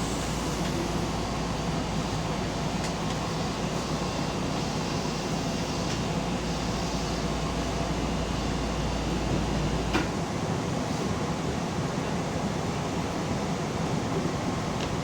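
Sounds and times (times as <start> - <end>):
train car hum and rumble: 0.0 - 15.0.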